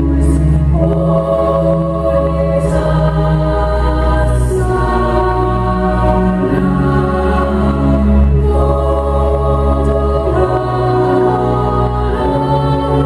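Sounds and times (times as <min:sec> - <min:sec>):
chant-like held notes: 0:00.0 - 0:13.0
deep bass drone: 0:00.0 - 0:13.0.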